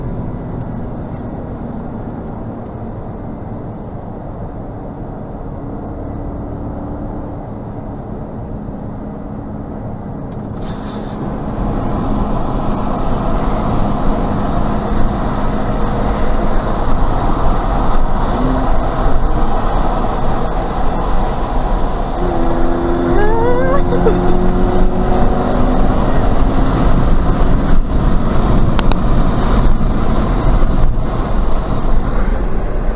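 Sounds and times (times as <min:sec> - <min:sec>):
car engine accelerating hard: 0:00.0 - 0:32.9.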